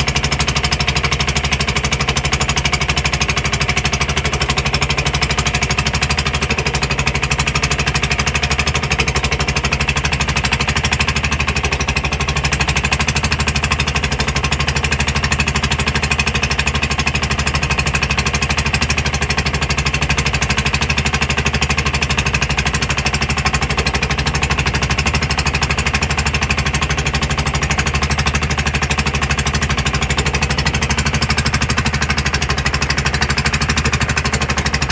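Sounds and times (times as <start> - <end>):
boat engine pounding: 0.0 - 34.9.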